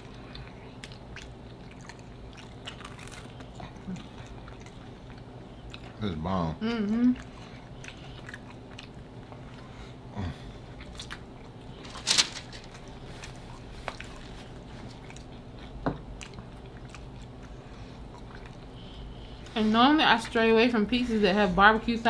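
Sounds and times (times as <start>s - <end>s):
chewing pizza: 0.0s - 20.4s.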